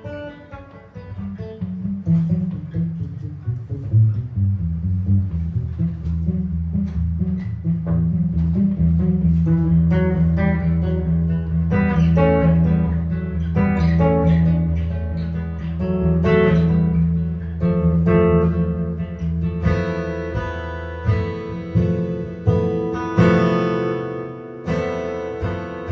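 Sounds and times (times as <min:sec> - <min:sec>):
jazz guitar notes and chords: 0:00.0 - 0:25.9
held low bass tone: 0:01.6 - 0:24.0.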